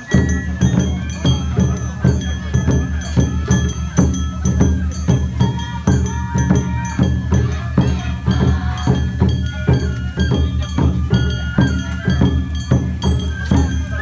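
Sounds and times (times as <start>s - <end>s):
drums beating quick rhythm: 0.0s - 14.0s
high bamboo flute melody: 0.0s - 14.0s.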